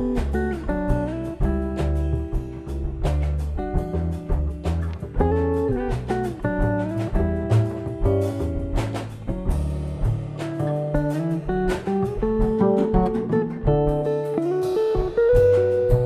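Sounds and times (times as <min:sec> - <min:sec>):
drum kit with cymbals: 0:00.0 - 0:16.0
plucked guitar melody: 0:00.0 - 0:16.0
walking double bass: 0:00.0 - 0:16.0.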